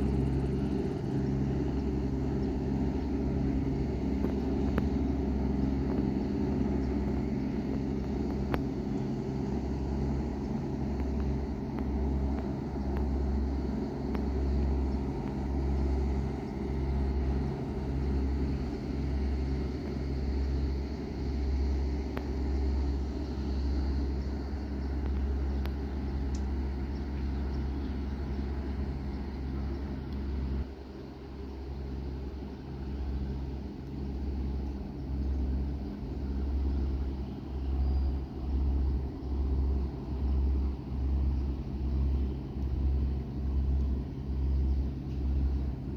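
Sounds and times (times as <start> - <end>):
ship diesel engines droning: 0.0 - 45.9.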